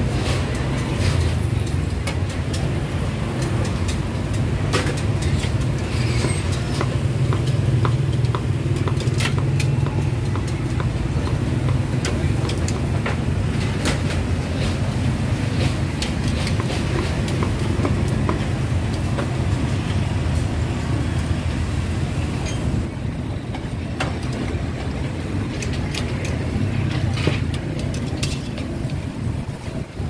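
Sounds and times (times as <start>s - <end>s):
sharp clicks and clatters: 0.0s - 20.7s, 23.5s - 30.0s
engine and traffic rumble: 0.0s - 30.0s.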